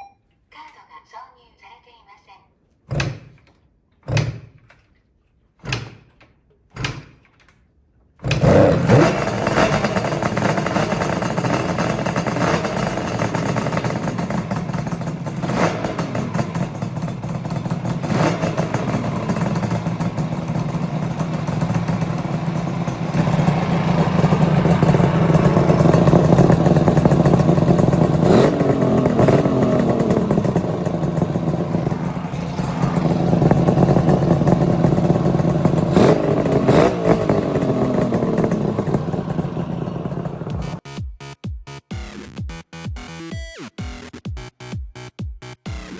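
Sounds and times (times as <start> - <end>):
motorcycle engine starting and running: 2.9 - 5.0, 5.6 - 7.6, 8.2 - 45.9.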